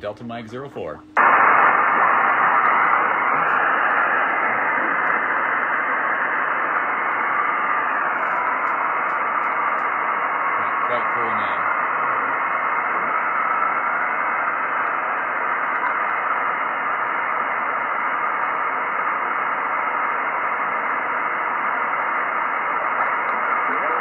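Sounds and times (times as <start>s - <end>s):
radio receiver hiss: 0.0s - 24.0s.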